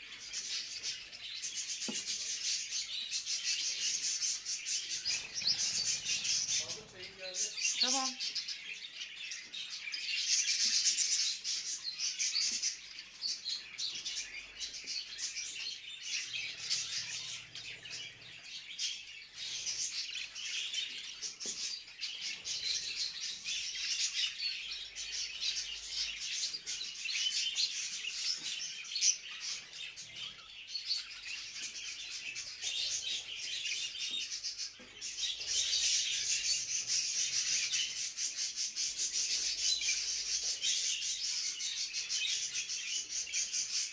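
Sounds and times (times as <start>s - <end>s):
budgerigars chattering and warbling: 0.0s - 43.9s.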